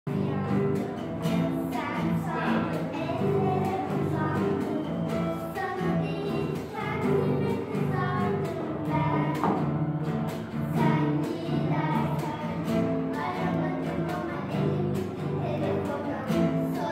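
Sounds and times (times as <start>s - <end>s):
girls singing together: 0.1s - 16.9s
held instrumental accompaniment: 0.1s - 16.9s.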